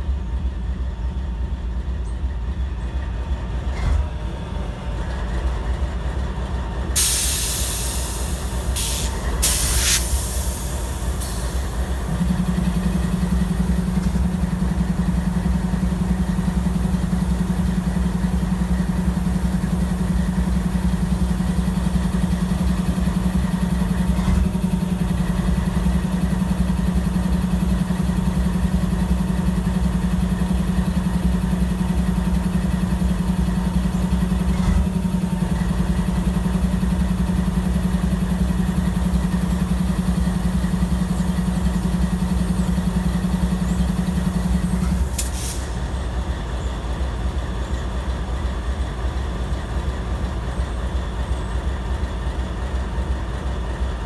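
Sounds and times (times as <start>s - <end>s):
diesel locomotive hum: 0.0s - 54.0s.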